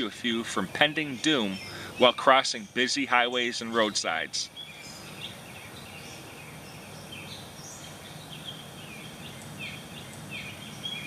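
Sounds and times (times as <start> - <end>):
birds chirping: 0.0 - 11.0
steady background noise: 0.0 - 11.0.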